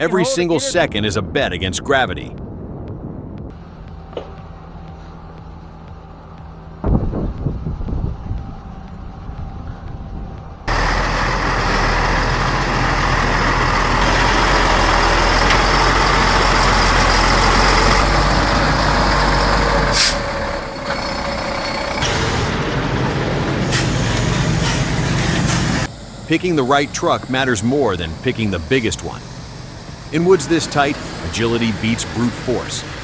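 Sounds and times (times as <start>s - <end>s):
heavy truck engine running: 2.4s - 33.0s.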